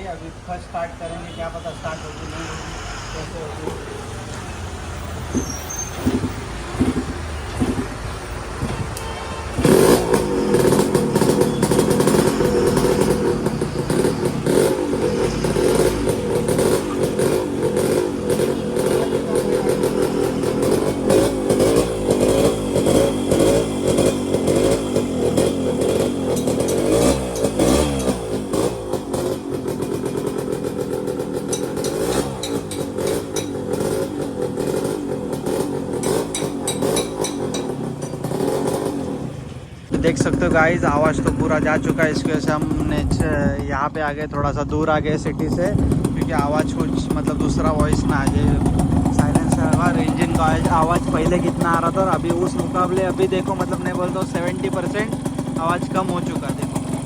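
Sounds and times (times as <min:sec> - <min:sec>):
two-stroke engine revving: 0:03.1 - 0:57.0.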